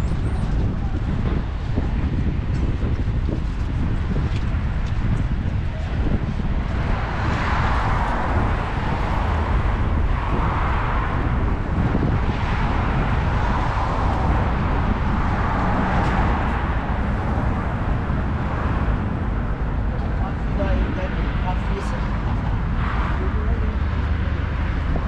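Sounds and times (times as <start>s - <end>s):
cars passing by: 0.0s - 25.0s
road traffic rumble: 0.0s - 25.0s.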